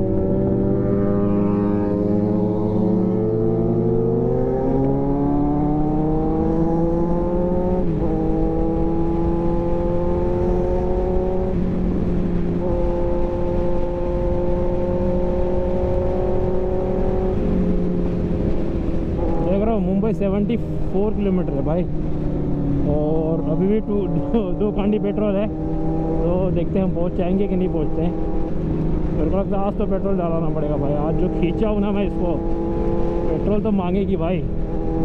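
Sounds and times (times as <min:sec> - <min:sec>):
wind rush on microphone: 0:00.0 - 0:35.0.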